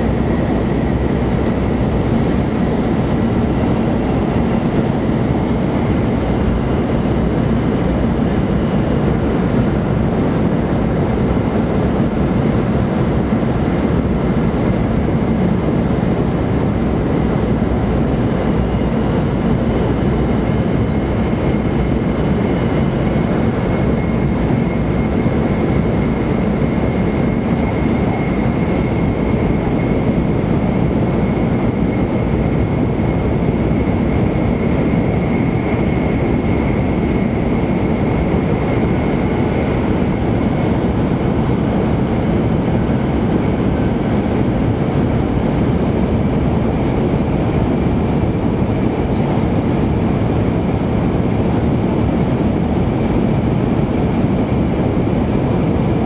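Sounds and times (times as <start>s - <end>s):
train wheels and air rumble: 0.0s - 56.0s.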